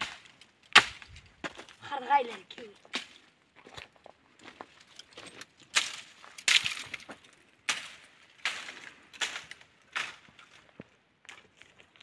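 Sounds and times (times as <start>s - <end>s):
footsteps crunching on stony ground: 0.1s - 12.0s.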